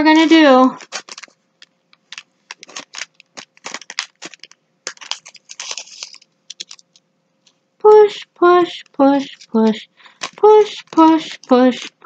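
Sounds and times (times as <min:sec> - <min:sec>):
parchment paper crinkling: 0:00.0 - 0:07.0, 0:08.8 - 0:12.0.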